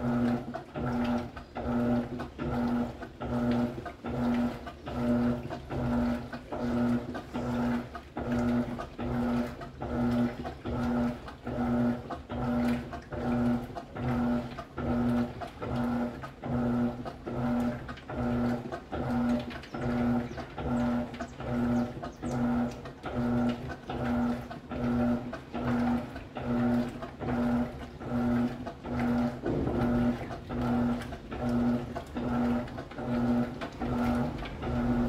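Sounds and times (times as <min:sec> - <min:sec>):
washing machine agitator churning: 0:00.0 - 0:35.0.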